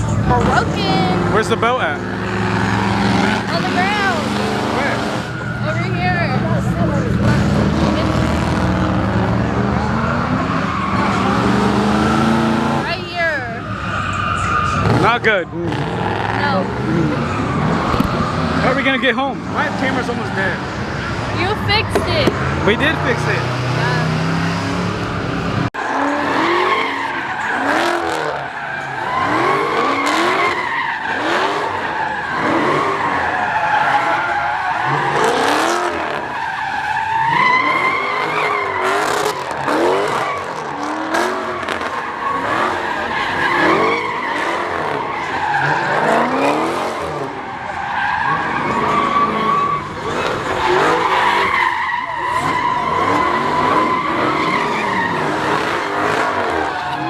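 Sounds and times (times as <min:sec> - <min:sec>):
car engine revving: 0:00.0 - 0:57.0
tires squealing: 0:00.0 - 0:57.0.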